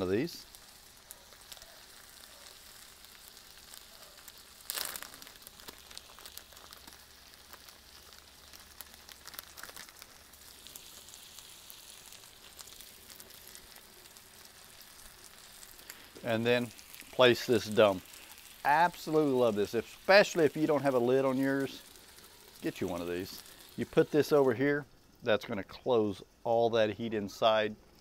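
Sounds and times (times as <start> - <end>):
chicken sizzling on a griddle: 0.0 - 25.2
plastic packaging crinkle: 0.5 - 24.5.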